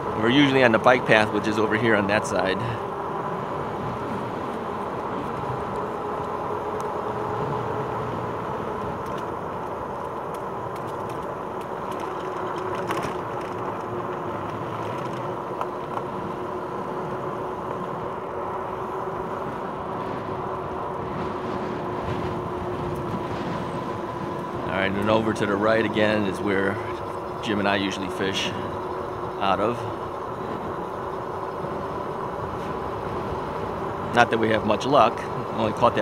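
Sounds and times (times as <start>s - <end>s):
electric bike motor whine: 0.0s - 36.0s
tyres and wind rushing: 0.0s - 36.0s.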